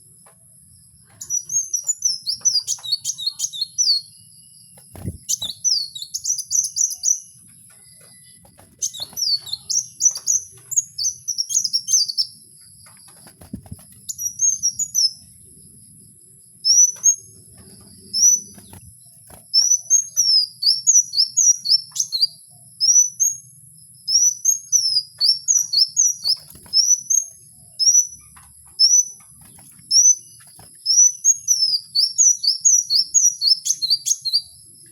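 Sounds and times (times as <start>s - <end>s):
songbird chirping: 0.0s - 34.9s.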